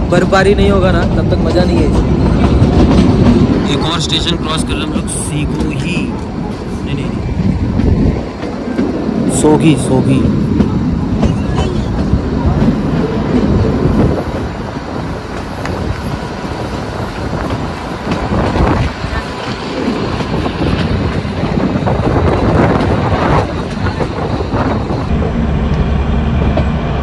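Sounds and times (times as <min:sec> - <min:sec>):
train rumbling on track: 0:00.0 - 0:27.0.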